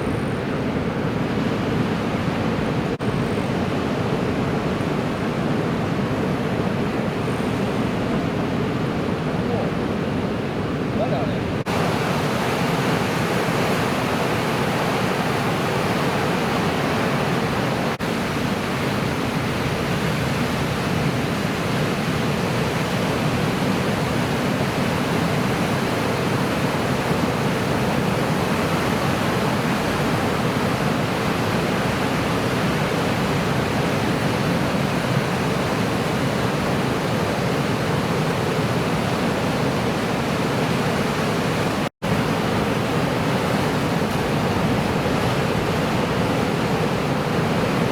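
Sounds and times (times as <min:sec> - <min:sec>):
ocean surf rushing: 0:00.0 - 0:47.9.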